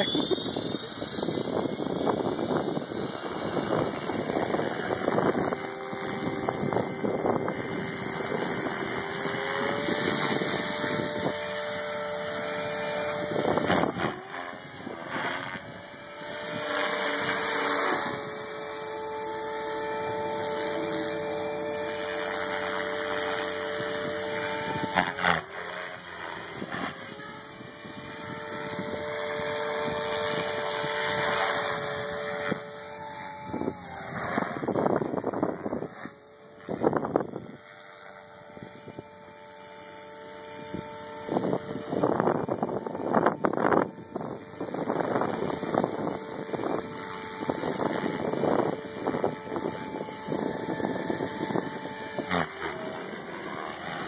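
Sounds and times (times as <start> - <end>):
high electric motor whine: 0.0 - 54.0
rotor hum: 0.0 - 54.0.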